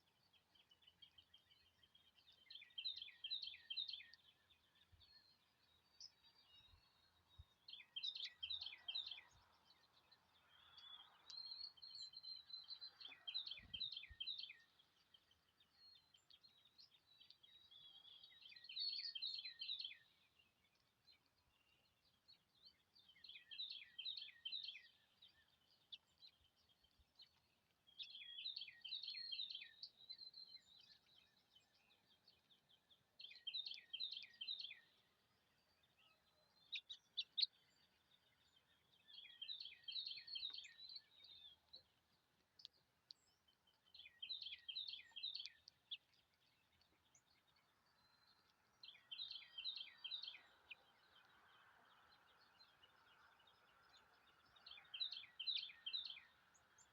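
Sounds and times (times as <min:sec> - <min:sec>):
songbird singing: 0:00.0 - 0:56.9.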